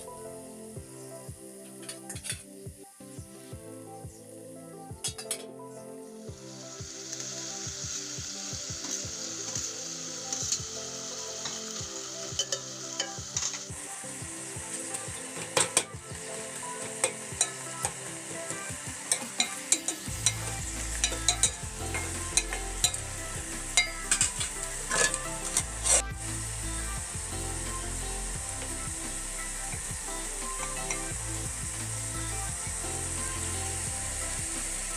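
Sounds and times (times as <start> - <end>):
food sizzling in a pan: 0.0 - 4.4, 6.0 - 34.9.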